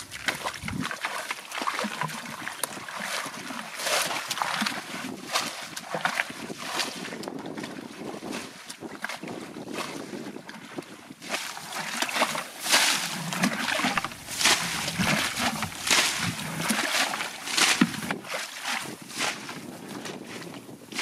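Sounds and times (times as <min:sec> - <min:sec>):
feet moving in wet mud: 0:00.0 - 0:10.1, 0:11.3 - 0:21.0
muddy water splashing: 0:00.0 - 0:21.0.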